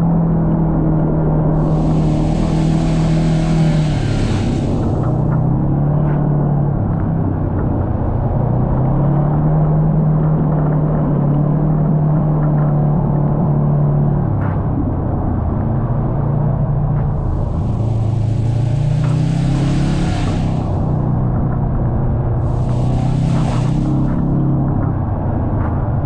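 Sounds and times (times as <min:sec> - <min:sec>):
utility vehicle engine drone: 0:00.0 - 0:26.0.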